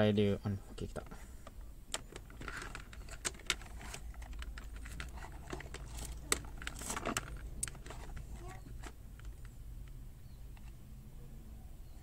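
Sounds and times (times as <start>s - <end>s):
plastic parts clicking and tapping: 1.0s - 10.8s.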